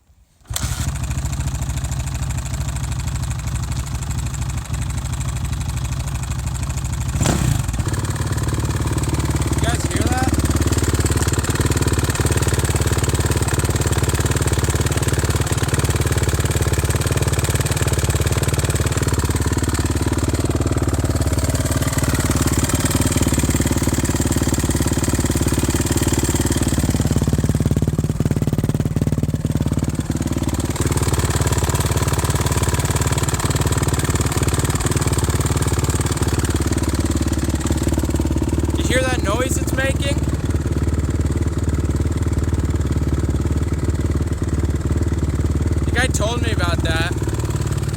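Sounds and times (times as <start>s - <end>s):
dirt bike engine idling with knocking: 0.5s - 47.9s.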